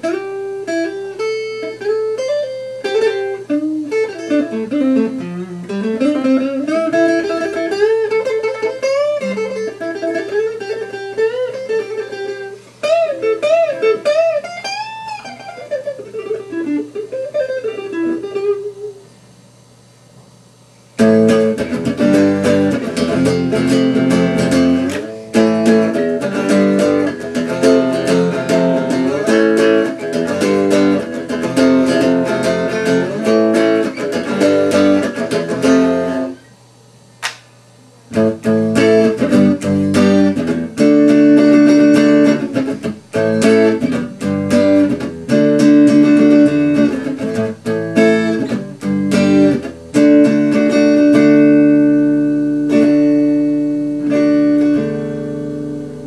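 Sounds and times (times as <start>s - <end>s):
electric guitar strummed and picked: 0.0s - 19.2s, 21.0s - 36.4s, 38.1s - 56.0s.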